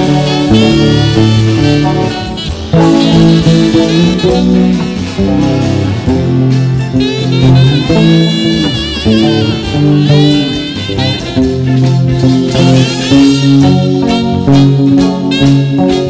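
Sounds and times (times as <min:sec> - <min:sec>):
bass and drum backing track: 0:00.0 - 0:16.0
electric guitar: 0:00.0 - 0:16.0.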